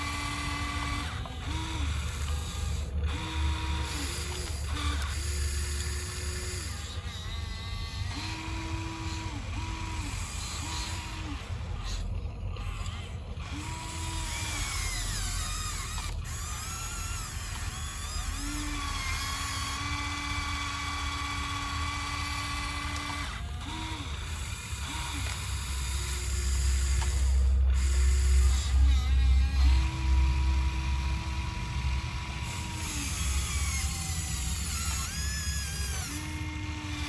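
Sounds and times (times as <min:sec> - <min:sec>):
electric motors whining: 0:00.0 - 0:37.0.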